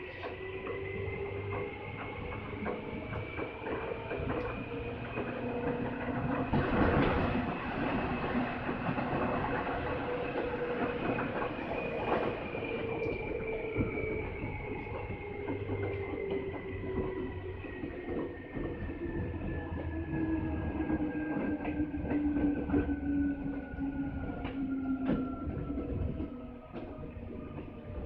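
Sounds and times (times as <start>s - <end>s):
wheels clattering on rail joints: 0.0s - 28.0s.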